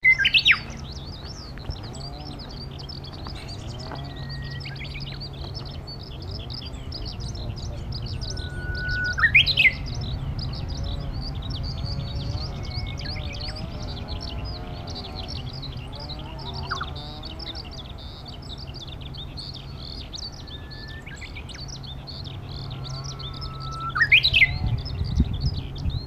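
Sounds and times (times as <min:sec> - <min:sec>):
bush warbler whistling song: 0:00.0 - 0:26.0
skylarks twittering: 0:00.0 - 0:26.0.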